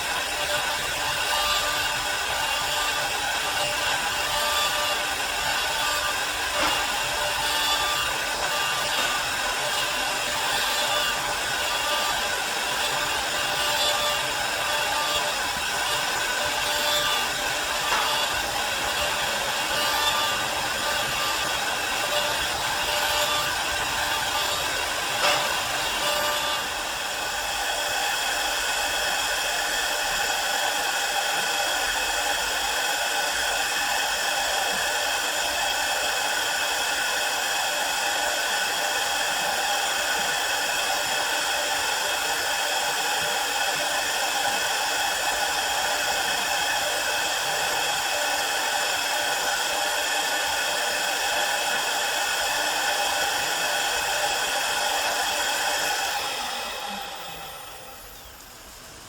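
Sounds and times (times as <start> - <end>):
lathe whining: 0.0 - 59.0.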